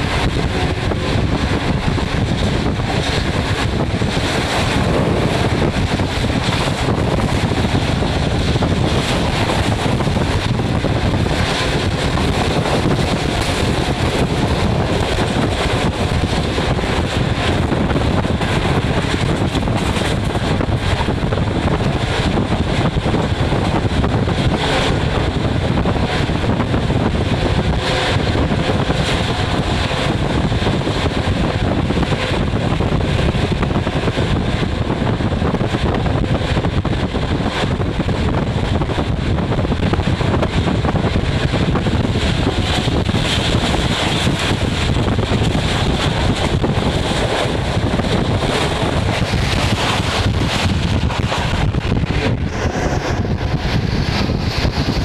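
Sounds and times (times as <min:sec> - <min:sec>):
train rushing noise from inside: 0:00.0 - 0:55.0
wind buffeting microphone: 0:00.0 - 0:55.0.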